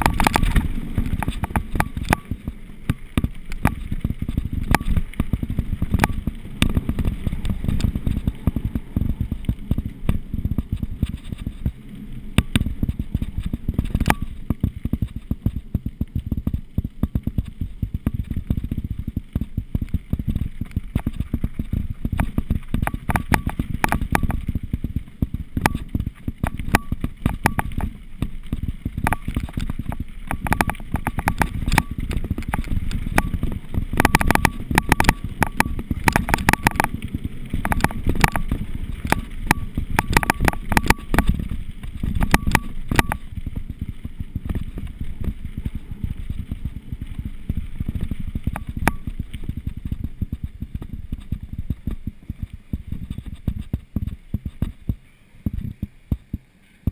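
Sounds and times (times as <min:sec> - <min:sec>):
bike rattling over bumps: 0:00.0 - 0:56.9
steady low rumble: 0:00.0 - 0:56.9.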